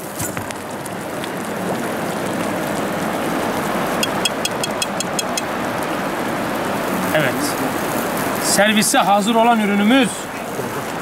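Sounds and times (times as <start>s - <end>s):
hot metal tray sizzling on ice: 0.0s - 11.0s.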